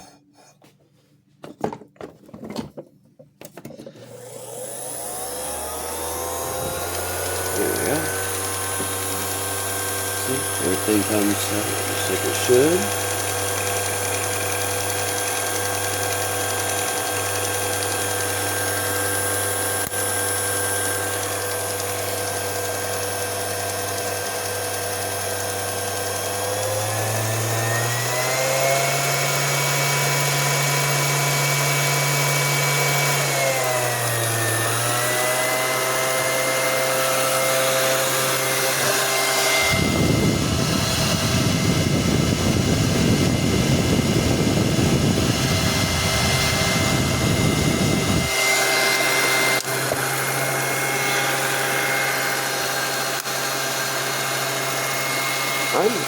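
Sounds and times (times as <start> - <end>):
film projector hum and whine: 4.0 - 56.0.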